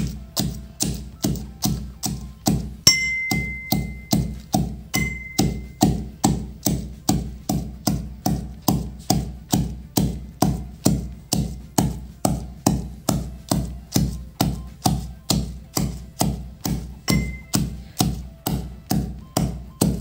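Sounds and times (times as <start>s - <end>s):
steel pestle pounding in mortar: 0.0s - 20.0s.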